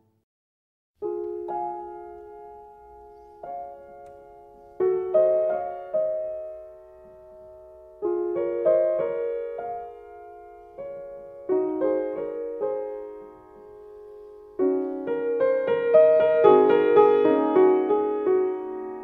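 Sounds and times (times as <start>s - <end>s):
slow solo piano chords: 1.0s - 19.0s.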